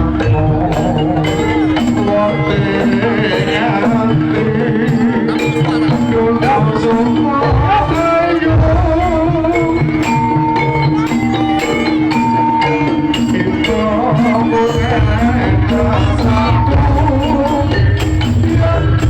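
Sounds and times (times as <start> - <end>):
wavering melodic line: 0.0 - 18.0
folk ensemble drums and percussion: 0.0 - 19.0
held metallic notes: 0.0 - 19.0.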